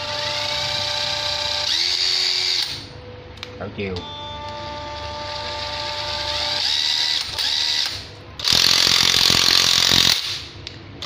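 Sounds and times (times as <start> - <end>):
impact driver motor whine: 0.0 - 2.8, 4.0 - 10.5.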